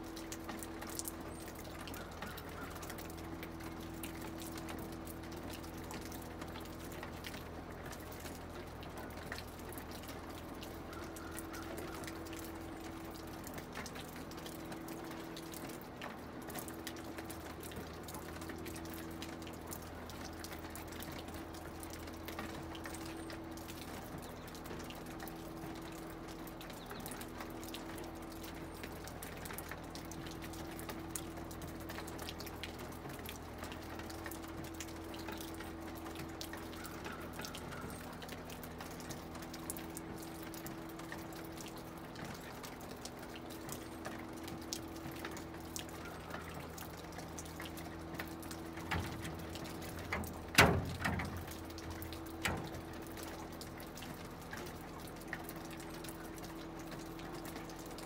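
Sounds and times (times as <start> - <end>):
water dripping from eaves: 0.0 - 58.0.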